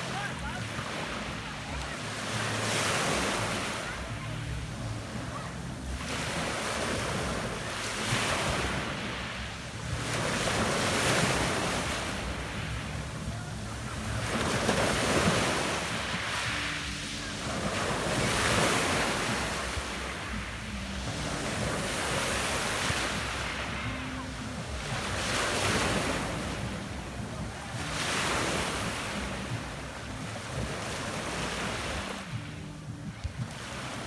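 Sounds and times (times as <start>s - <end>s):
waves on pebble beach: 0.0s - 32.6s.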